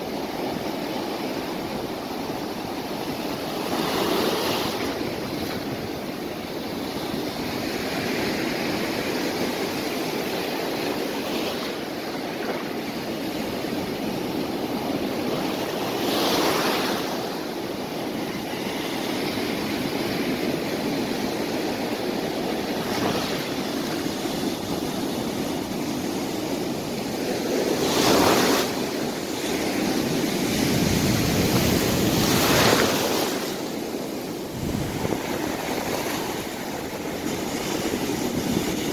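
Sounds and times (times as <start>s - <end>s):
surf washing over sandy beach: 0.0s - 38.9s.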